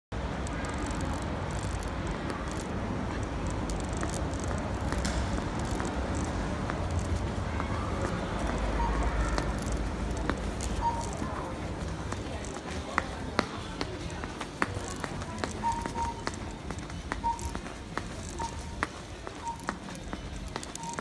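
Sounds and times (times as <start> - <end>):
steady low urban rumble: 0.1 - 21.0
footsteps on stone paving: 0.5 - 21.0.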